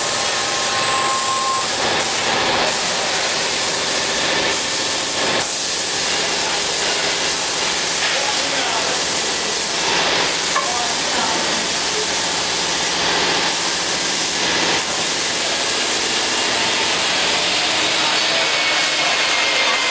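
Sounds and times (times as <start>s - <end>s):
wood-turning lathe hissing: 0.0s - 19.9s.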